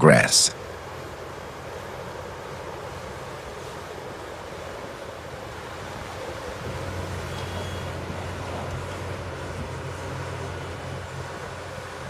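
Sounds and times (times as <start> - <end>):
excavator diesel engine and hydraulics: 0.0 - 12.0.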